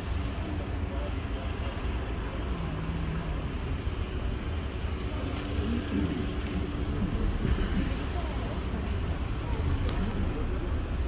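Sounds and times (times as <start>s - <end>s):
faint indistinct voices: 0.0s - 11.0s
low rumble of traffic: 0.0s - 11.0s.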